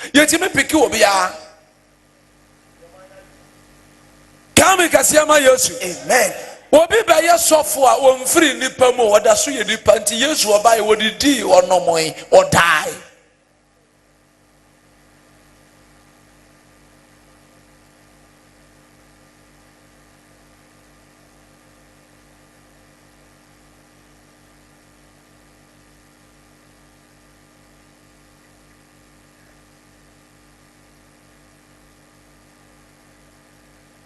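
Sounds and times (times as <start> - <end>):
faint electrical hum with hiss: 0.0 - 34.0.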